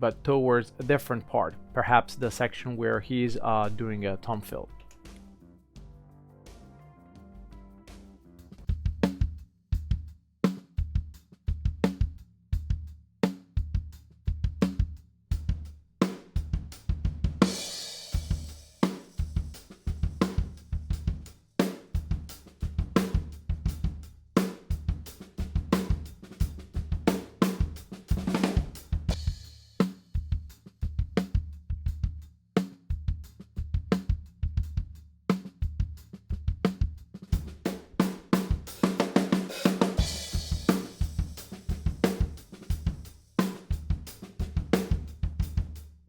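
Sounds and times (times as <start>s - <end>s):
acoustic drum kit groove: 0.0s - 46.0s.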